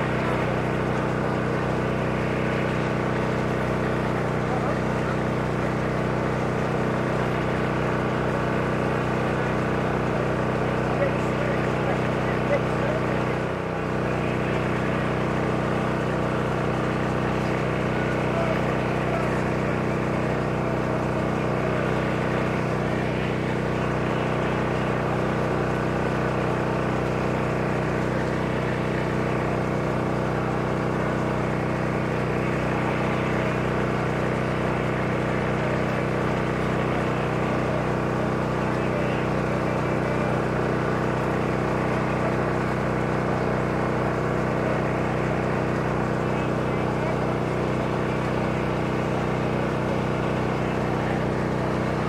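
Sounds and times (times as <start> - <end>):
engine droning: 0.0 - 52.0.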